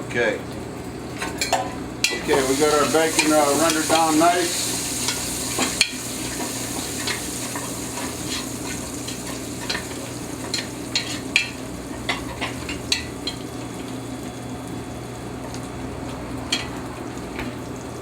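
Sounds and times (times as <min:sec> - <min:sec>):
bacon sizzling in a pot: 0:01.2 - 0:18.0.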